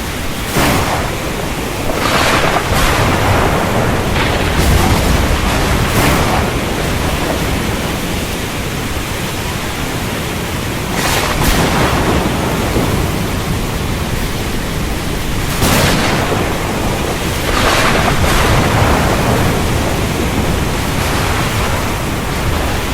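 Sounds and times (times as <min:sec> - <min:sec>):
heavy rain rushing: 0:00.0 - 0:22.9
strong wind: 0:00.0 - 0:22.9.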